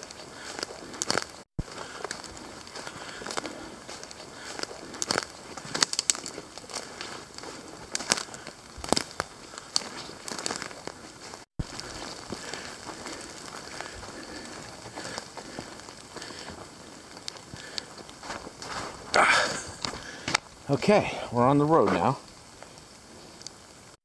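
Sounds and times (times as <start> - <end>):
footsteps crunching through leaves: 0.0 - 20.5
steady hiss: 0.0 - 24.0.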